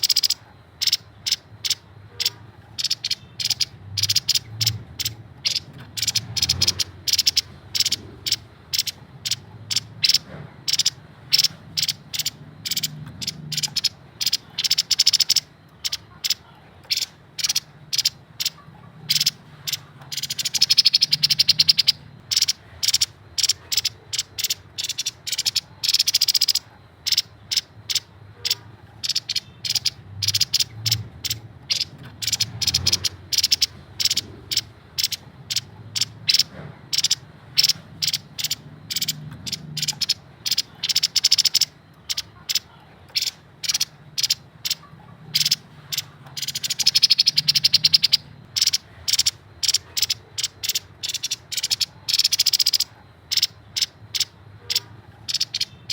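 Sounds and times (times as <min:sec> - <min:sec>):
bird calling in stuttering bursts: 0:00.0 - 0:55.9.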